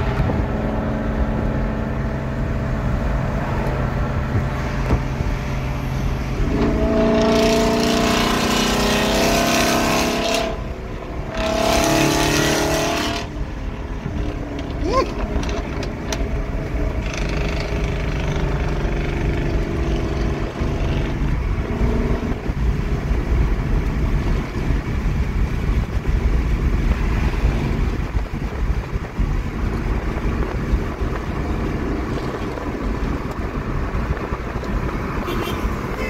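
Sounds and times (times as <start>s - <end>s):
car engine rumble: 0.0s - 36.0s
road noise: 0.0s - 36.0s
wind noise: 0.0s - 36.0s.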